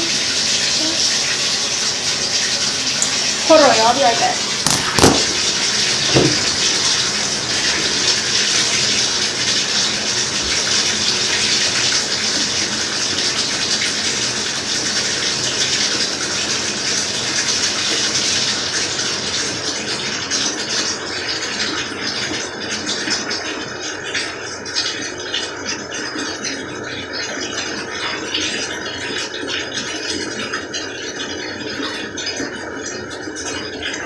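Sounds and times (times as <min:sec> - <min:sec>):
faucet water rushing into tub: 0:00.0 - 0:34.0.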